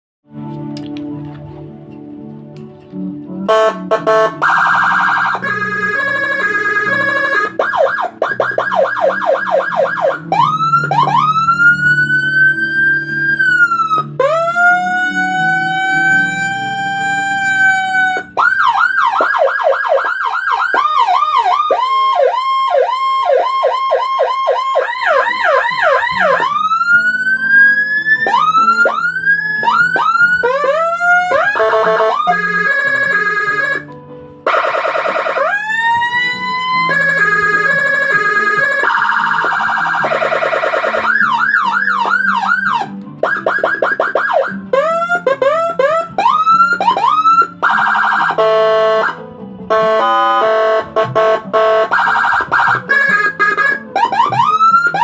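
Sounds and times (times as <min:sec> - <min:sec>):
electronic siren: 0:03.4 - 0:55.0.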